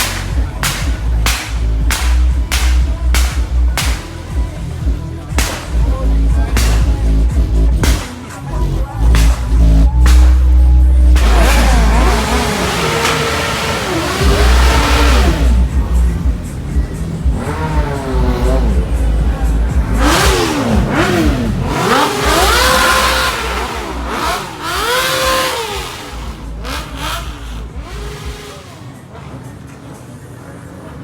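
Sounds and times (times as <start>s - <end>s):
loud bass-heavy music: 0.0s - 29.7s
rising and falling revving sounds: 0.0s - 29.8s.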